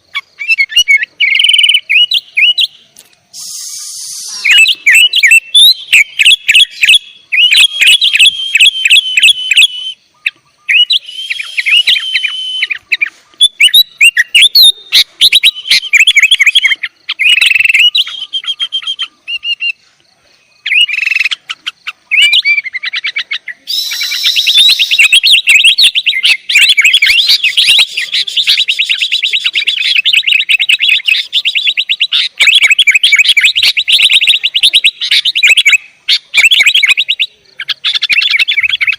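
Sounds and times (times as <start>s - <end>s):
bird chirping loudly: 0.0s - 19.8s, 20.5s - 38.9s.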